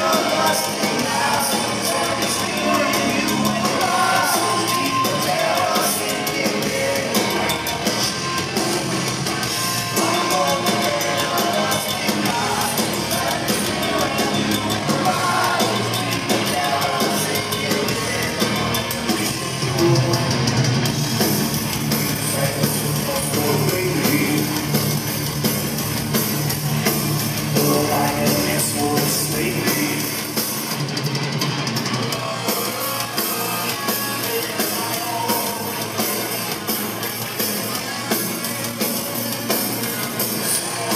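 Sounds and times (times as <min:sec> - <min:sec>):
heavy metal band playing live: 0:00.0 - 0:40.9.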